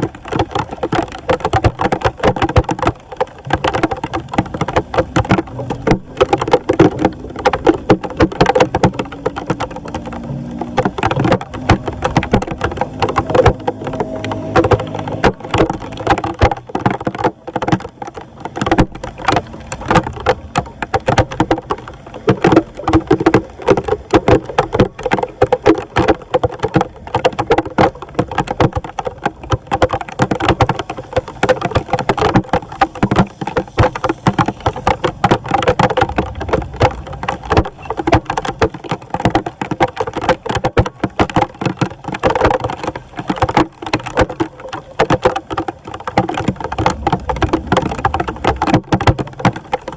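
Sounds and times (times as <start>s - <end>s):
water splashing and sloshing: 0.0s - 49.9s.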